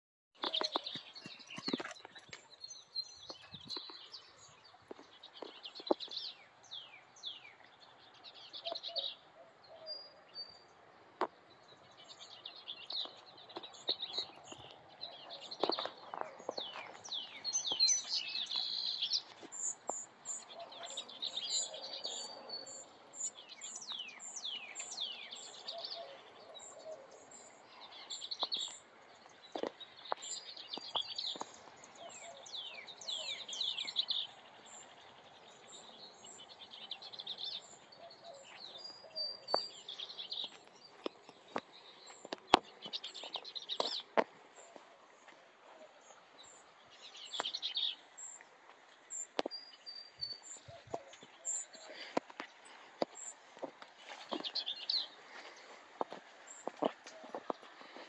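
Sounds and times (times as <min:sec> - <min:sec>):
birds chirping and calling: 0:00.4 - 0:58.0.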